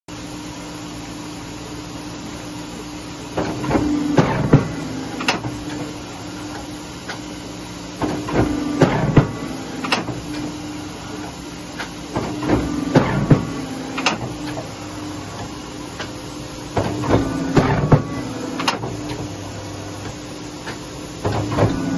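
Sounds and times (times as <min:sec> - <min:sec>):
paper cutter motor hum: 0:03.3 - 0:21.9.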